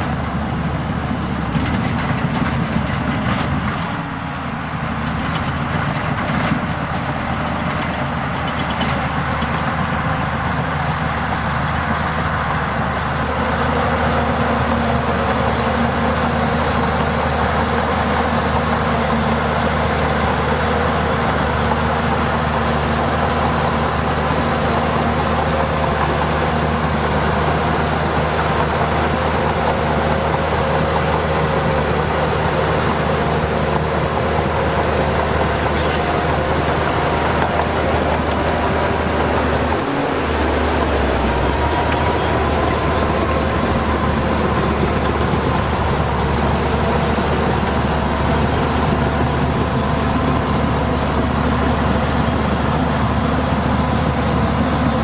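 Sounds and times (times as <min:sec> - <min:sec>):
heavy machinery diesel engine droning: 0:00.0 - 0:55.0.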